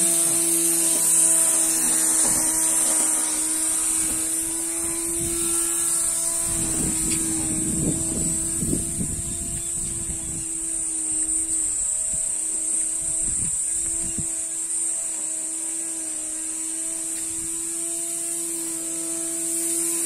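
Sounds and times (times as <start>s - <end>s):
motor running with high whine: 0.0s - 20.0s.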